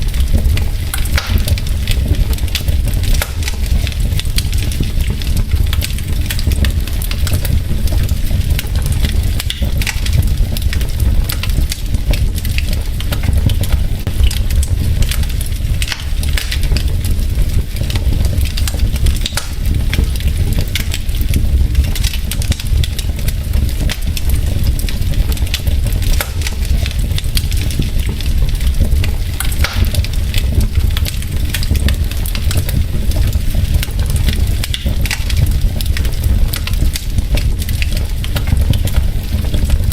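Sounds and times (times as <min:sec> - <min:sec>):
burning logs popping and snapping: 0:00.0 - 0:39.9
low rumble of flames: 0:00.0 - 0:39.9.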